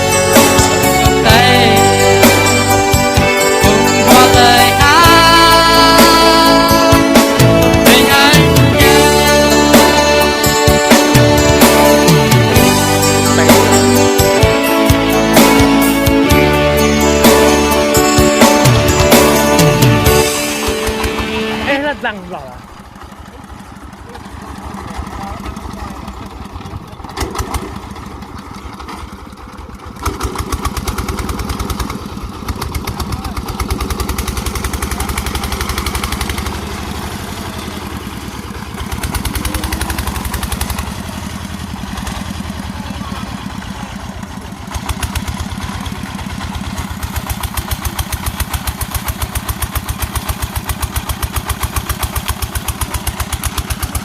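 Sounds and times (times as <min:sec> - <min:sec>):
harvesting machine engine running: 0:00.0 - 0:54.0.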